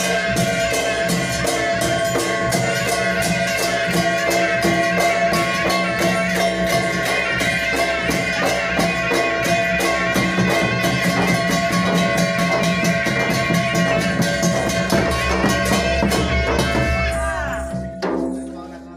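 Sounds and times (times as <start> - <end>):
barrel drums beating: 0.0 - 18.9.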